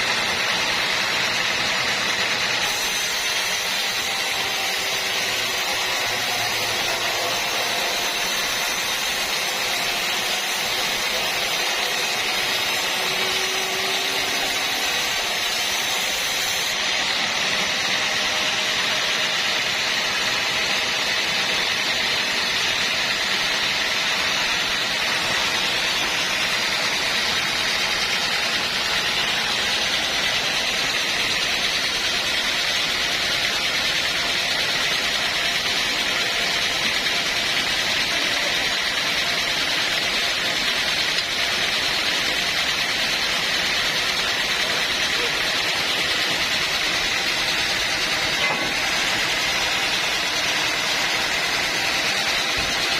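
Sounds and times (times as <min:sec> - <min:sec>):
machinery running with hiss: 0:00.0 - 0:52.9.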